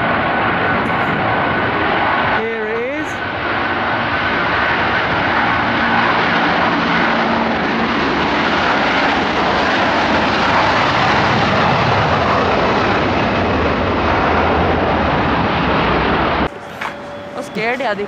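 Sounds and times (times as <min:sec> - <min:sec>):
wind on microphone: 0:00.0 - 0:17.6
faint engine whine: 0:00.0 - 0:18.0
jet engines running: 0:00.0 - 0:18.0.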